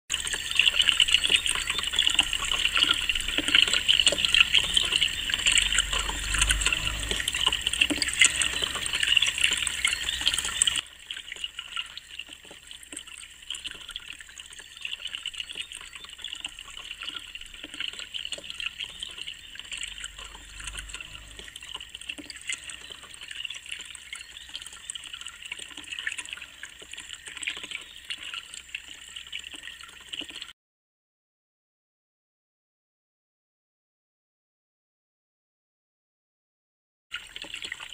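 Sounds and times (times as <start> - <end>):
fountain water splashing: 0.1 - 30.5
water trickling: 0.1 - 30.6, 37.1 - 37.9.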